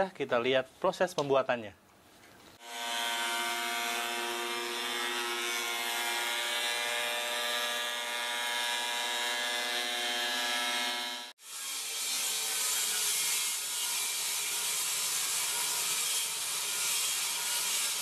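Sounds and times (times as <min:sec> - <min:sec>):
thickness planer whine and hiss: 0:02.6 - 0:18.0.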